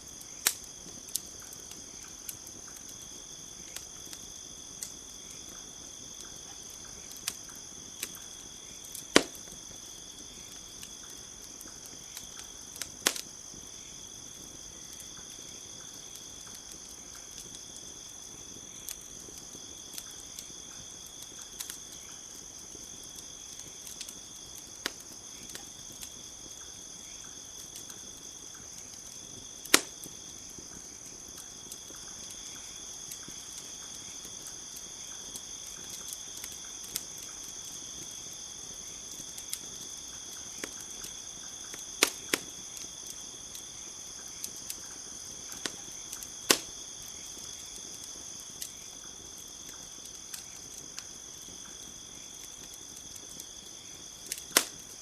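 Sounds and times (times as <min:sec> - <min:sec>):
campfire crackling and popping: 0:00.0 - 0:55.0
crickets chirring: 0:00.0 - 0:55.0.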